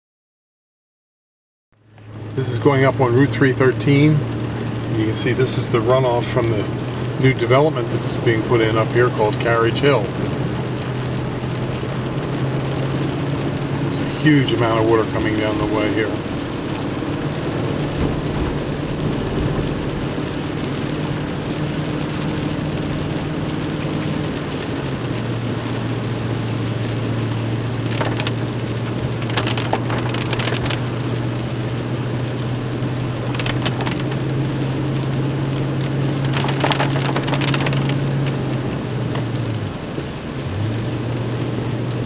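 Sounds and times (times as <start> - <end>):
heavy rain: 1.8 - 42.0
low vehicle engine hum: 1.8 - 42.0
crackling bursts: 1.9 - 42.0
rushing storm runoff: 1.9 - 42.0.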